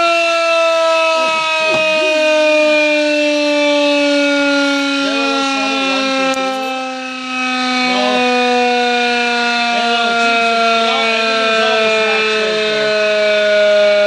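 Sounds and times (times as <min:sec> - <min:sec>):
motor siren wailing: 0:00.0 - 0:14.0.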